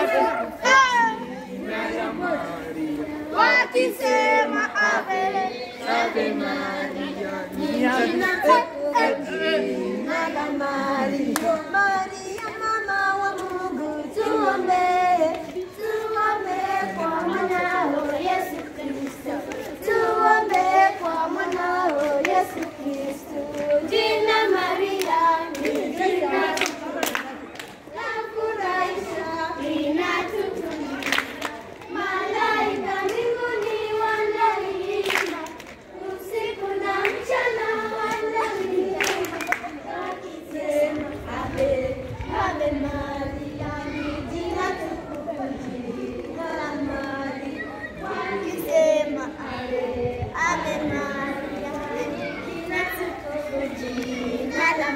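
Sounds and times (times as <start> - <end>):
children singing: 0.0 - 54.9.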